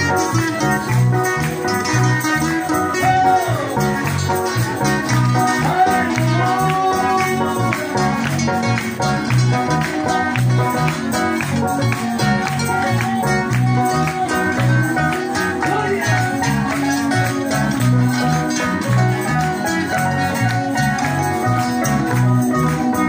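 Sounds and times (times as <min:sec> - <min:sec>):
live band playing upbeat song: 0:00.0 - 0:23.0.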